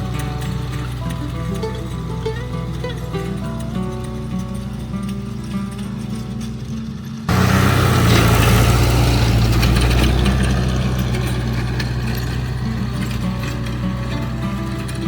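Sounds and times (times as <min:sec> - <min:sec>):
heavy engine running: 0:00.0 - 0:15.0.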